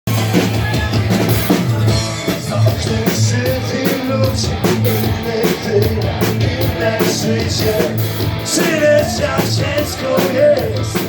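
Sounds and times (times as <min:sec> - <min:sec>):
drum kit steady beat: 0:00.0 - 0:11.0
electric guitars playing: 0:00.1 - 0:11.0.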